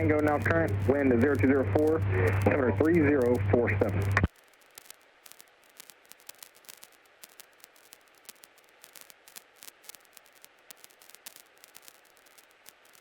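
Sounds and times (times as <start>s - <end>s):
radio static clicks: 0.0s - 13.0s
radio static hiss: 0.0s - 13.0s.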